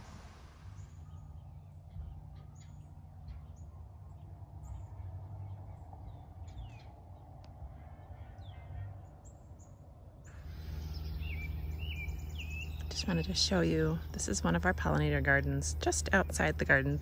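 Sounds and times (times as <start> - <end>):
low rumble: 0.0 - 8.2, 9.0 - 17.0
birds chirping: 0.0 - 17.0.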